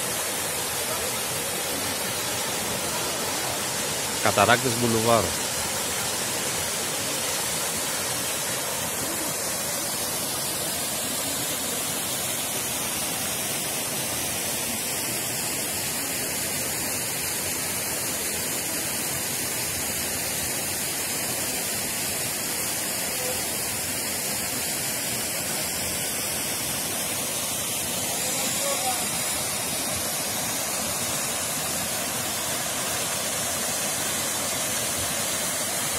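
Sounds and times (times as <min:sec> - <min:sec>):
small waterfalls rushing: 0:00.0 - 0:35.9.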